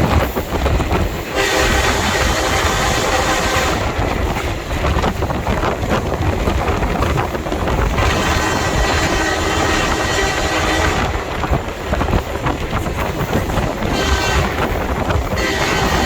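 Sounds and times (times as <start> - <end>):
train rumbling: 0.0 - 16.0
wind buffeting microphone: 0.0 - 16.0.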